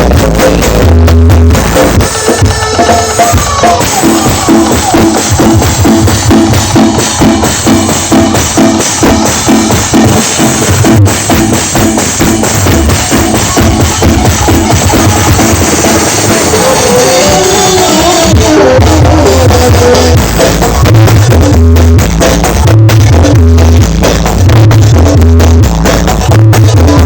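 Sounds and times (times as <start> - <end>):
loud dance music with heavy bass: 0.0 - 27.0.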